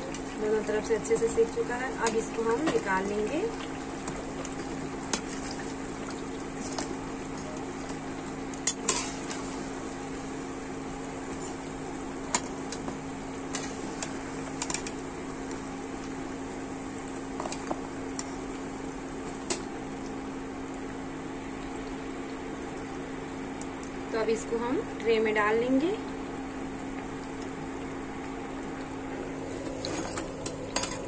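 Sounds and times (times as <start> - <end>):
food sizzling in hot oil: 0.0 - 25.3, 28.9 - 31.0.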